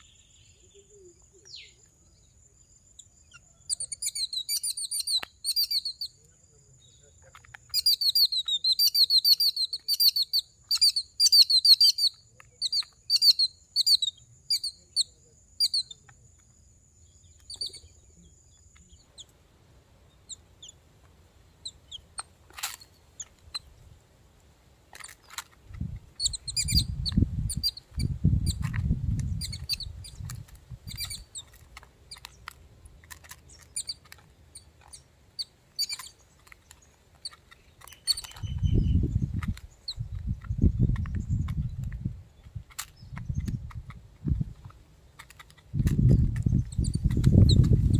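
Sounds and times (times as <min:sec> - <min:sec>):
small birds chirping: 0:00.0 - 0:24.1, 0:24.9 - 0:47.9.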